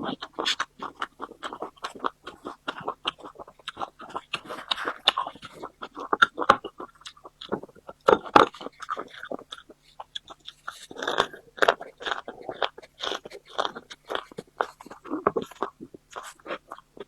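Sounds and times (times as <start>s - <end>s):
person crunching food: 0.0s - 17.0s
wet mouth sounds: 0.0s - 17.0s.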